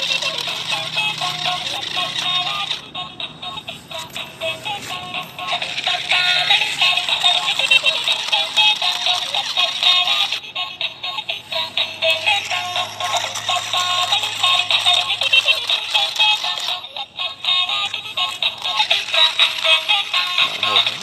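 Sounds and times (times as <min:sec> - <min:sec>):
tinny electronic toy jingle: 0:00.0 - 0:21.0.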